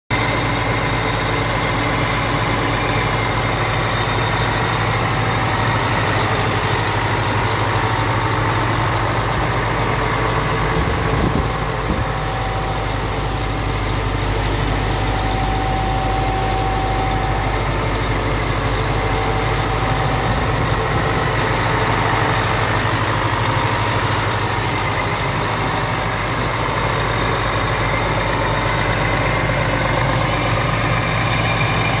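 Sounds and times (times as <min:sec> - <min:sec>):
diesel engine idling: 0:00.1 - 0:32.0.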